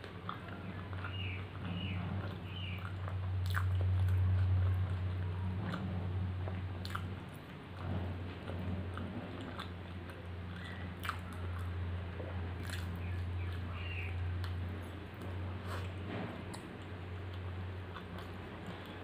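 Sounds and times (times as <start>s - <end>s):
close chewing: 0.0s - 19.0s
steady low hum: 0.0s - 19.0s.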